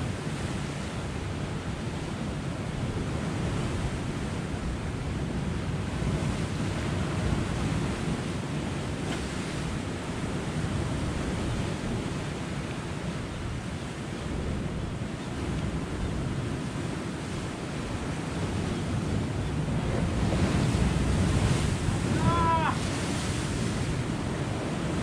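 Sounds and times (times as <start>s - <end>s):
surf washing on rocky shore: 0.0s - 25.0s
wind buffeting microphone: 2.5s - 25.0s.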